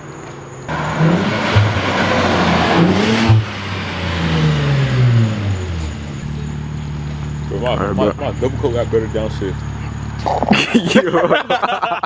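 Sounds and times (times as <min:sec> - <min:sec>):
car engine revving: 0:00.7 - 0:10.5.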